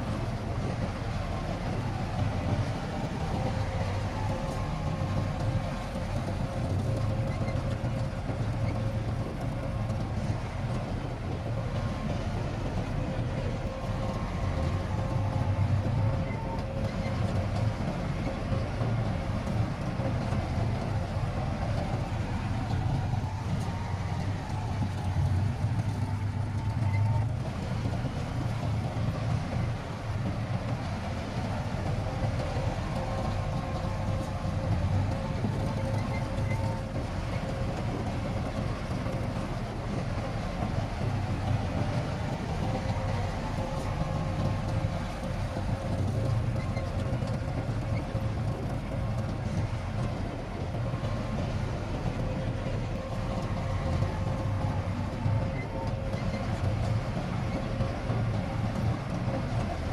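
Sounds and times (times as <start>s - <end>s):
heavy diesel engine rumbling: 0.0s - 59.9s.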